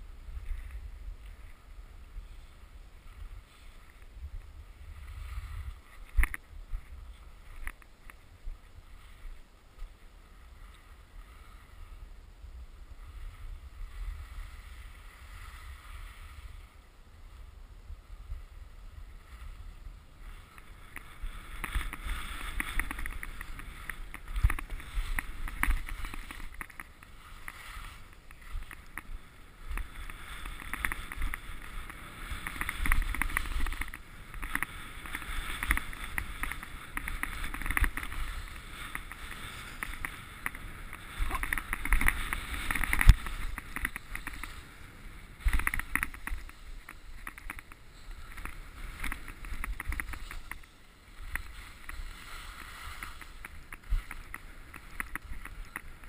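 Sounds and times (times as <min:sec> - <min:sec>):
skis scraping over snow: 0:00.0 - 0:56.0.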